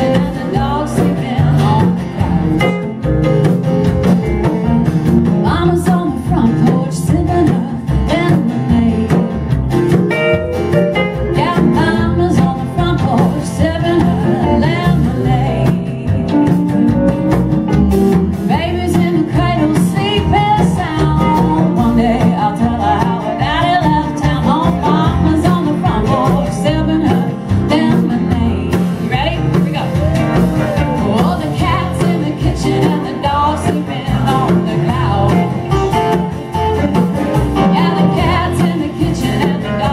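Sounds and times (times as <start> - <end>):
woman singing country song: 0.0 - 3.1, 5.2 - 10.1, 10.9 - 16.9, 18.3 - 39.9
acoustic guitar: 0.0 - 39.9.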